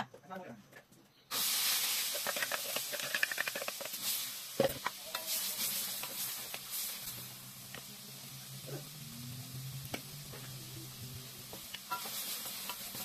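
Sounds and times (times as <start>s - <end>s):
paste sizzling in hot oil: 1.3s - 13.0s
spatula scraping wok: 1.4s - 13.0s.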